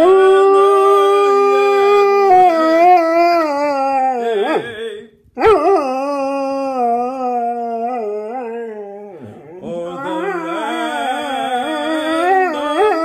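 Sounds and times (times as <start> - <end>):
dog howling: 0.0 - 4.8, 5.4 - 13.0.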